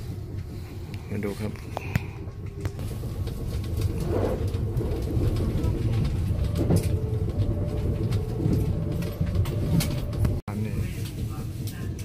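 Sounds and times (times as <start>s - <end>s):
train rumble from inside carriage: 0.0s - 12.0s.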